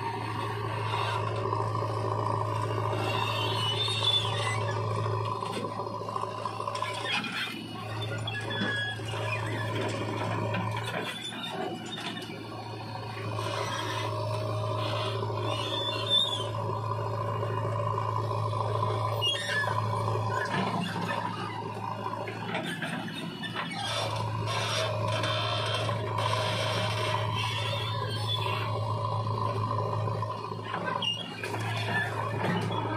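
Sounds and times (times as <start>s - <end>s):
diesel engines running: 0.0s - 32.9s.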